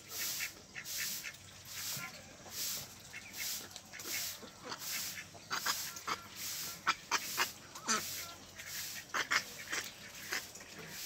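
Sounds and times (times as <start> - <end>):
ducks quacking: 0.1 - 11.0.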